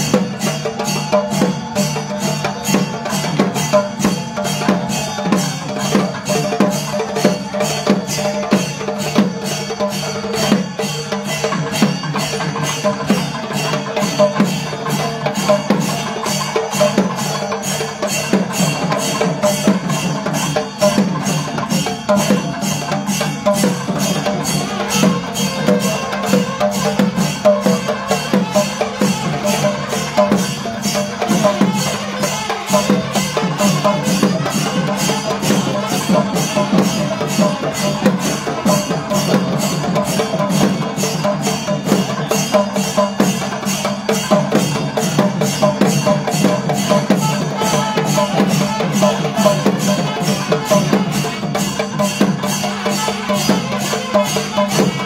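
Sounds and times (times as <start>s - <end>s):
drums beaten in fast rhythm: 0.0s - 55.0s.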